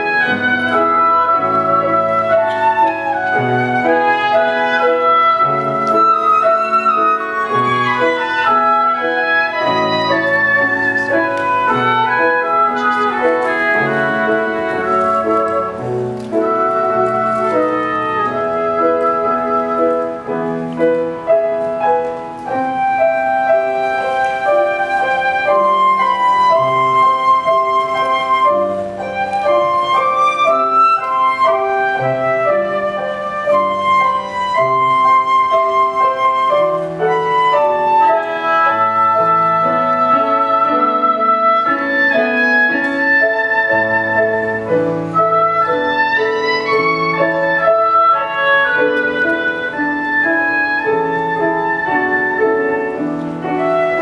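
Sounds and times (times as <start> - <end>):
clarinet melody: 0.0 - 54.0
flute melody: 0.0 - 54.0
keyboard accompaniment: 0.0 - 54.0.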